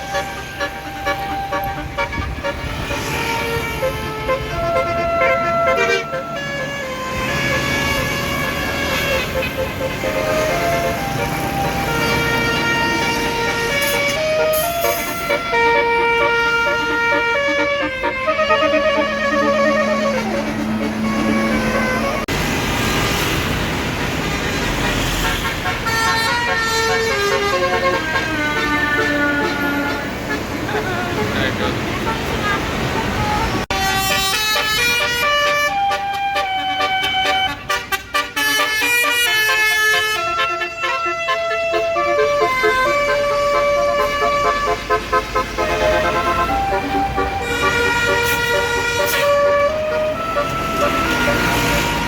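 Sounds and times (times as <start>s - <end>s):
multi-tone horn playing a tune: 0.0s - 22.3s, 25.2s - 52.0s
low rumble of bus engines: 0.0s - 52.0s
traffic noise: 0.0s - 52.0s.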